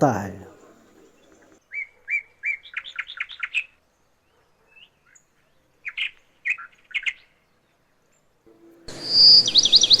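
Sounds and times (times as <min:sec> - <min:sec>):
bird chirping: 0:00.4 - 0:10.0.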